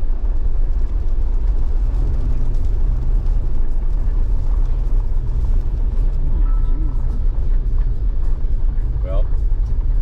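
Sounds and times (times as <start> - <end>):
vehicle engine rumbling: 0.0 - 10.0
wind noise: 0.0 - 10.0.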